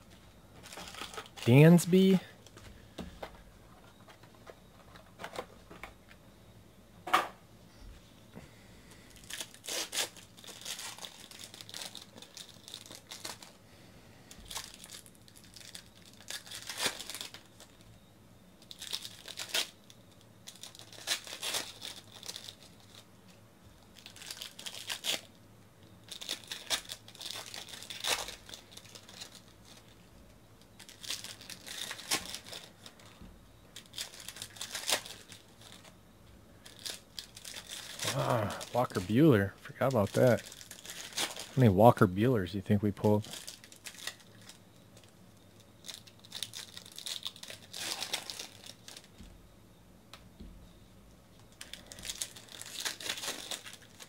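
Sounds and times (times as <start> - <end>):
foil wrappers crinkling and tearing: 0.6 - 2.9, 8.9 - 18.0, 18.6 - 36.0, 36.6 - 49.3, 51.4 - 54.0.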